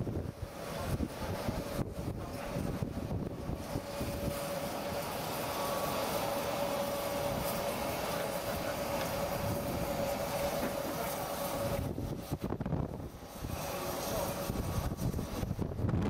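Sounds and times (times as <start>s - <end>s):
steam hiss: 0.5s - 15.7s.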